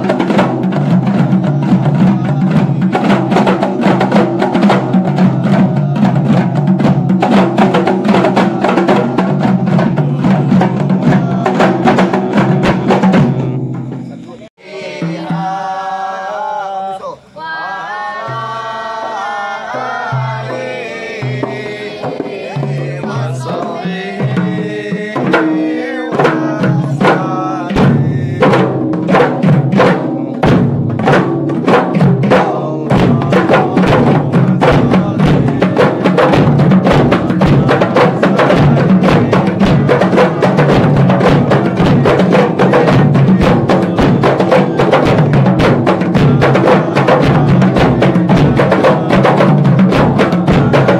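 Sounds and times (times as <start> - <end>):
frame drums beating: 0.0 - 16.1, 18.2 - 50.9
man singing: 0.0 - 30.7, 31.6 - 50.9.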